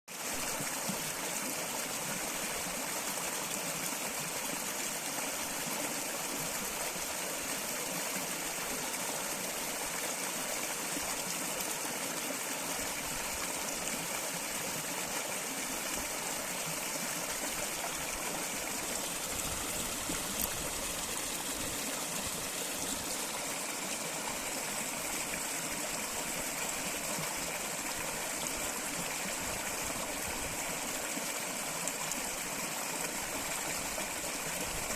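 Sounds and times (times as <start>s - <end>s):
stream water flowing: 0.1s - 34.9s.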